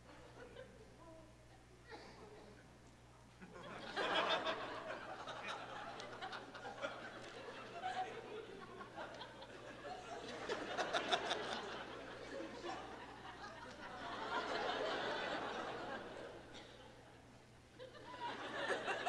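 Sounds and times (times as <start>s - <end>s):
audience laughing: 0.0s - 1.0s, 3.4s - 17.2s, 17.8s - 19.0s.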